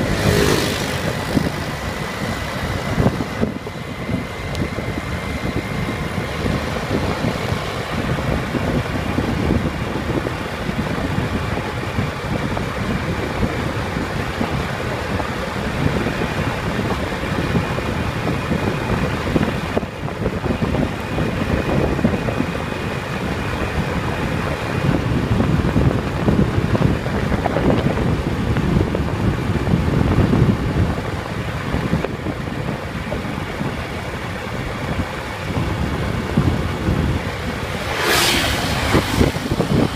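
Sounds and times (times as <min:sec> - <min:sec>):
engine and tyre hum: 0:00.0 - 0:39.9
wind buffeting microphone: 0:00.0 - 0:39.9.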